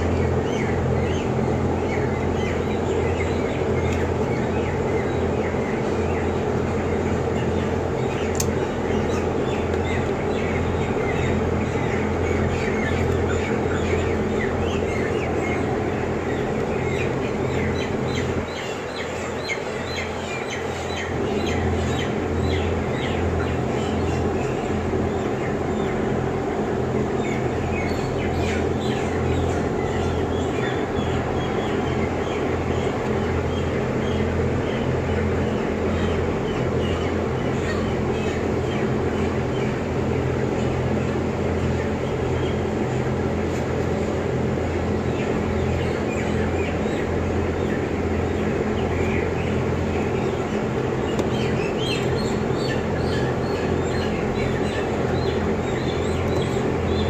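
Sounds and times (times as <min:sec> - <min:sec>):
blower fans humming: 0:00.0 - 0:57.0
chicks peeping: 0:00.0 - 0:57.0.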